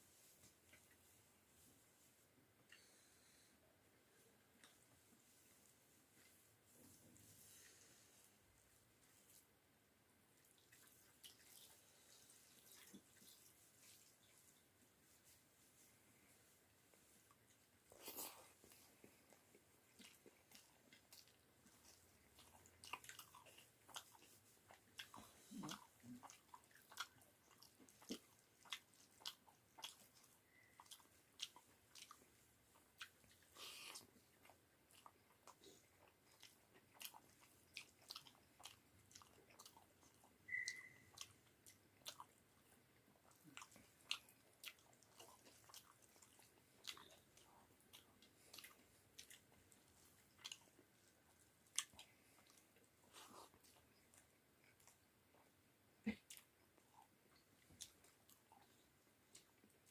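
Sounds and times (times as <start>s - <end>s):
person chewing food: 10.4s - 59.9s.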